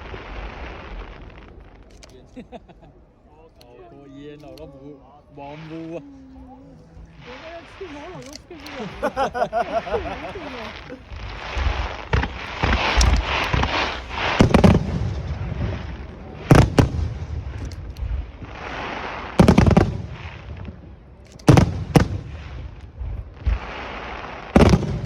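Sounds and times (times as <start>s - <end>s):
fireworks booming: 0.0s - 1.9s, 5.4s - 25.0s
fireworks crackling: 0.0s - 2.8s, 3.5s - 25.0s.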